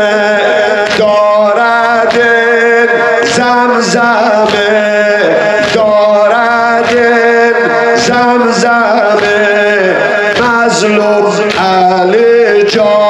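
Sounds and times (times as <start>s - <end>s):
man singing a lament: 0.0s - 13.0s.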